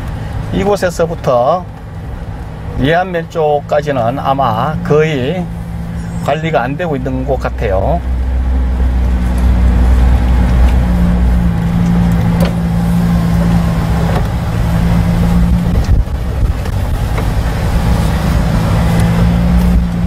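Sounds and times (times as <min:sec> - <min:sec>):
vehicle engine running slowly: 0:00.0 - 0:20.0.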